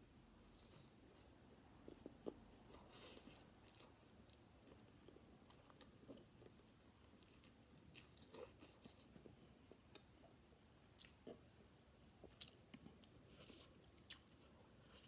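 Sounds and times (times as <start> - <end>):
faint close-up chewing: 0.2 - 15.0.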